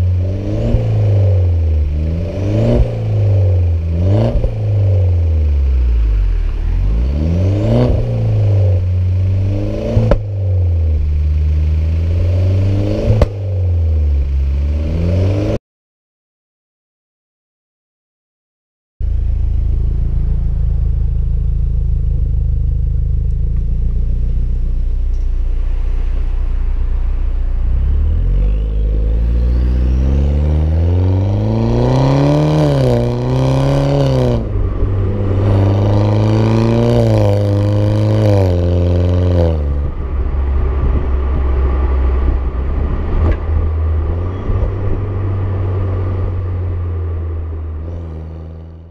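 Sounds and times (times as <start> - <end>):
car engine revving: 0.0 - 15.6, 19.0 - 48.9.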